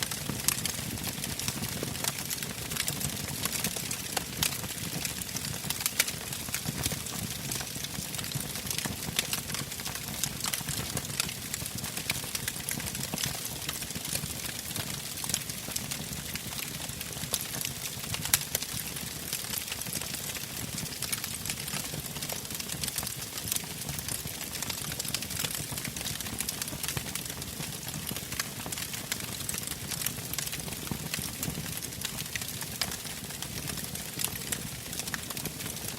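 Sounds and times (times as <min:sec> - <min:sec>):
campfire crackling: 0:00.0 - 0:35.9
fire pops and snaps: 0:00.1 - 0:16.4, 0:17.2 - 0:35.9.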